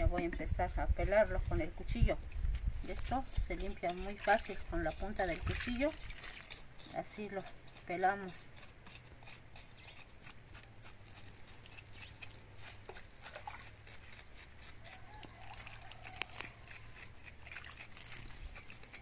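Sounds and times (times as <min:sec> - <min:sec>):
knife scraping vegetable skin: 0:01.1 - 0:19.0.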